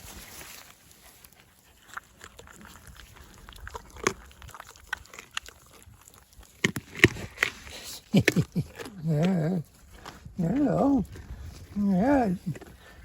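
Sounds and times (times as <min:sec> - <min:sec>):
dog snorting and snuffling: 0:01.2 - 0:13.0.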